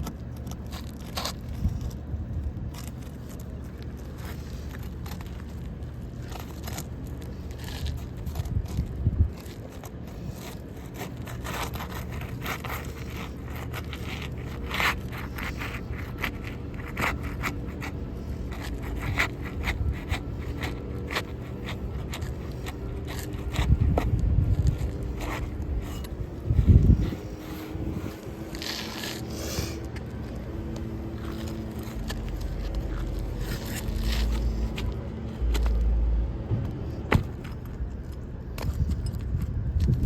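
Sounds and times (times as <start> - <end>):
shingles scraping and crackling: 0.0 - 35.7.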